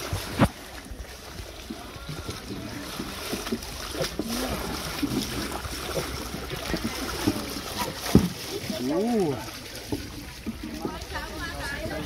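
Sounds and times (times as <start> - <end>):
oars dipping and splashing: 0.0 - 12.0
water washing against hulls: 0.0 - 12.0.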